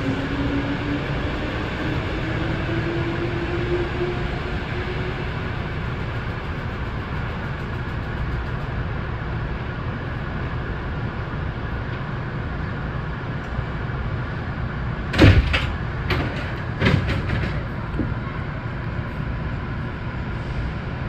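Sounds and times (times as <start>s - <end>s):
train humming: 0.0s - 21.0s.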